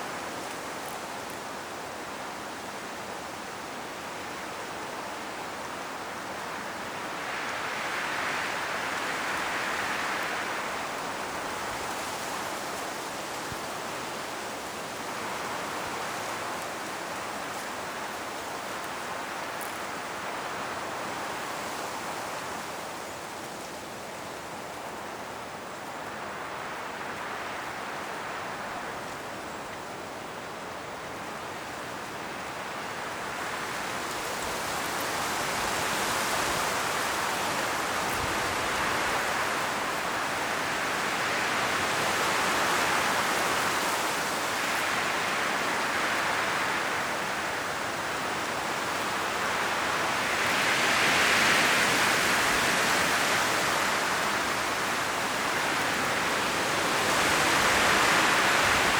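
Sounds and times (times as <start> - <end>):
strong wind rustling tree leaves: 0.0 - 58.9.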